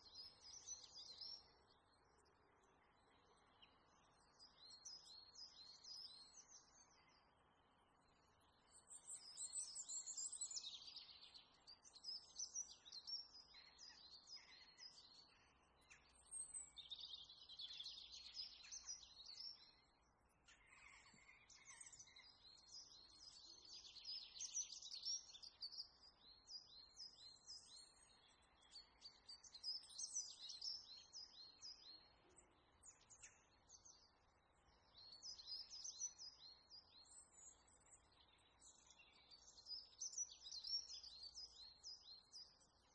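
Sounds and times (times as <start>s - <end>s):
birds chirping and trilling: 0.0s - 42.9s.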